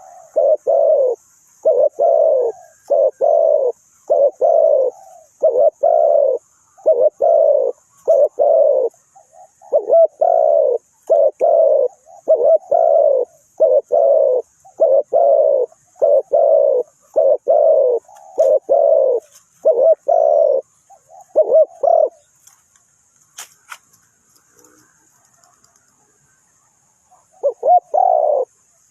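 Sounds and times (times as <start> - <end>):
dove cooing: 0.0 - 22.3, 27.0 - 28.9.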